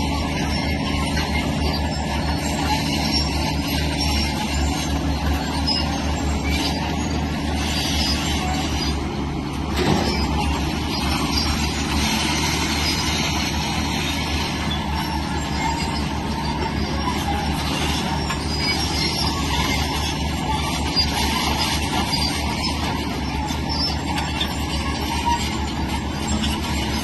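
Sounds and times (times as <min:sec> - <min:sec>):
grinding and hissing: 0:00.0 - 0:27.0
heavy machinery diesel engine running: 0:00.0 - 0:27.0.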